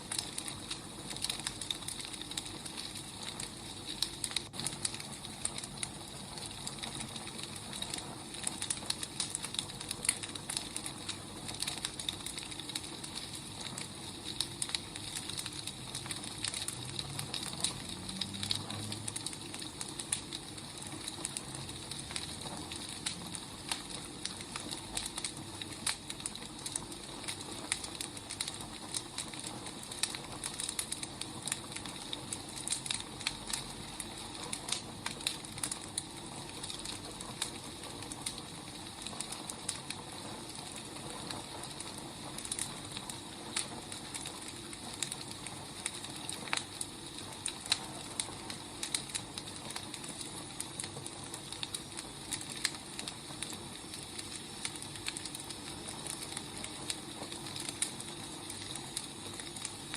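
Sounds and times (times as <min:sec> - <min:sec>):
fire hiss: 0:00.0 - 0:59.9
wood fire crackling: 0:00.0 - 0:59.9.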